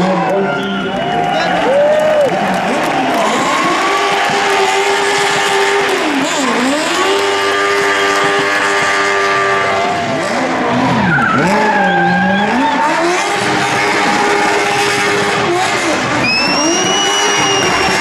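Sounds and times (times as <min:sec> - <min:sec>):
car engine at high revs: 0:00.0 - 0:18.0
tires skidding and squealing: 0:00.0 - 0:18.0.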